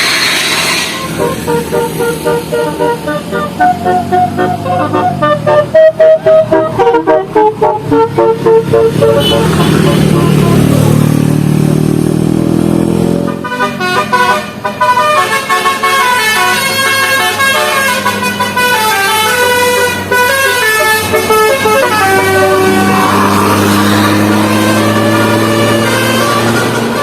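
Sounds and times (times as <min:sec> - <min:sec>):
musical bus horn tune: 0:00.0 - 0:11.2, 0:13.0 - 0:27.0.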